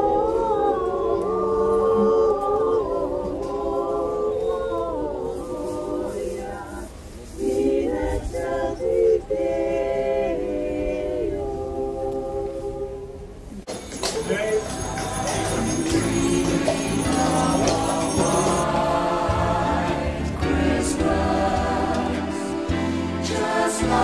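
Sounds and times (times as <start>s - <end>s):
women singing a cappella: 0.0s - 13.6s, 14.7s - 24.0s.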